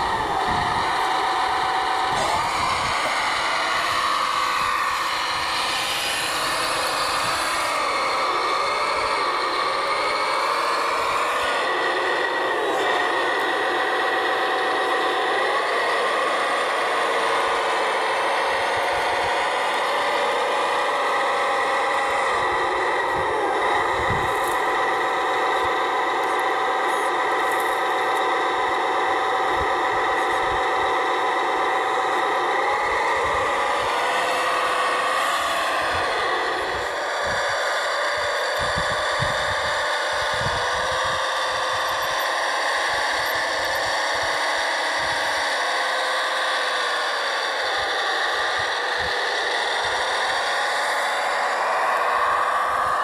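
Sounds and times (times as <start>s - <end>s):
electric motors whining: 0.0s - 53.0s.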